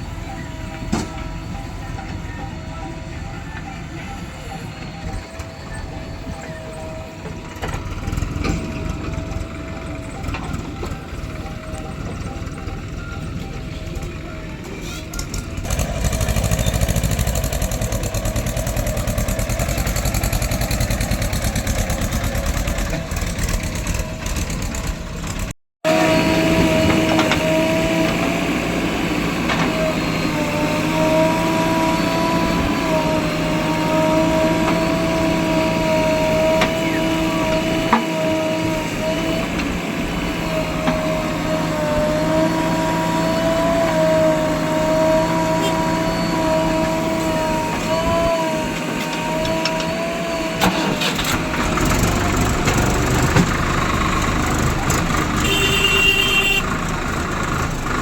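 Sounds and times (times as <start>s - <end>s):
diesel machinery engine running: 0.0s - 58.0s.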